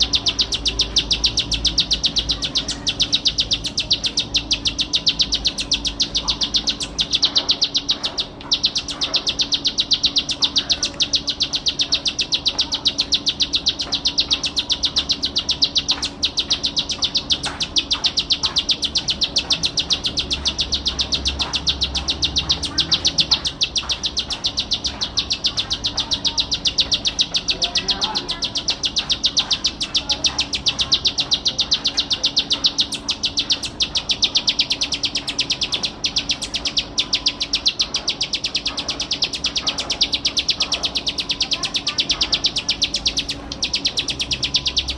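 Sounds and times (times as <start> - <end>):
bird singing rapid high notes: 0.0 - 44.9.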